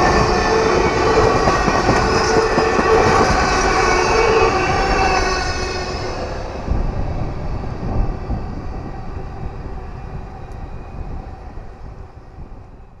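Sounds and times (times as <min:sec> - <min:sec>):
train cars rumbling on track: 0:00.0 - 0:12.8.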